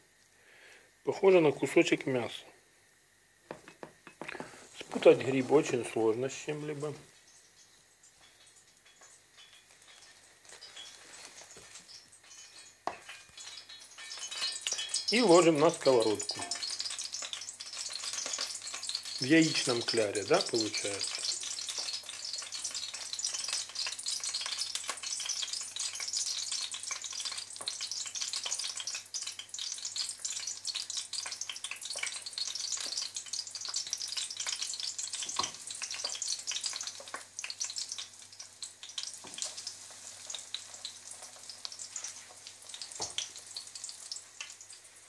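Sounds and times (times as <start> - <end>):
mushroom slices sizzling in oil: 0.0 - 45.0.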